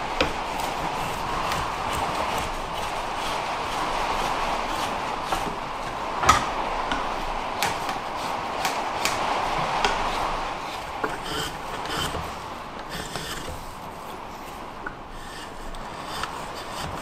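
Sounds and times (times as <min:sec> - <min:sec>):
rain on a roof and window: 0:00.0 - 0:17.0.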